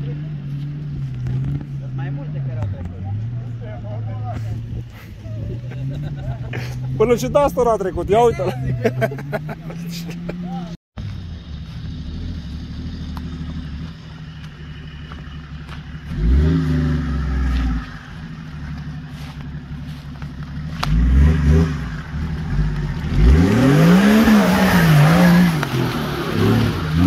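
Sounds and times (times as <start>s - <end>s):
off-road engine revving: 0.0s - 27.0s.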